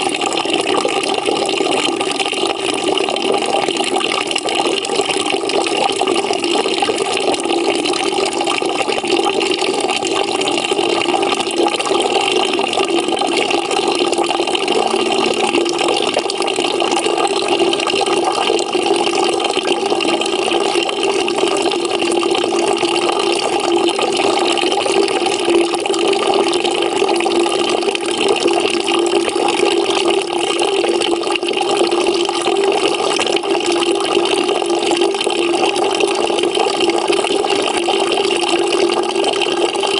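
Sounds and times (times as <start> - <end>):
tap water filling a bucket: 0.0 - 39.9.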